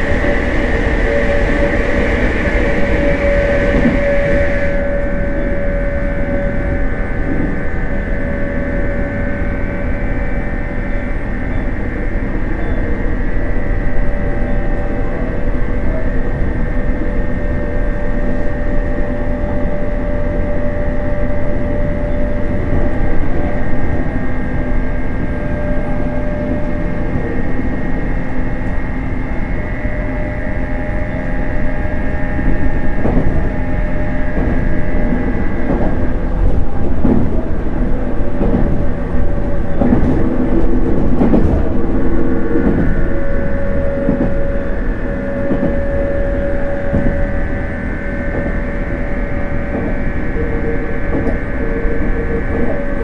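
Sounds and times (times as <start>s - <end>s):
electric train motor whine: 0.0s - 53.0s
train wheels rumbling on rail: 0.0s - 53.0s.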